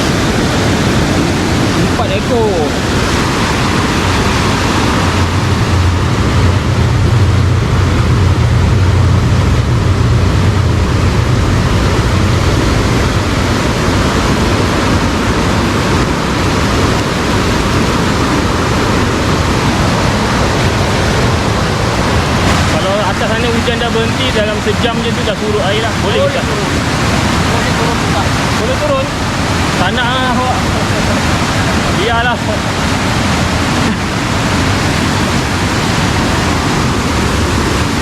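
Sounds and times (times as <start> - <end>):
low rumble: 0.0 - 38.0
river rushing: 0.0 - 38.0.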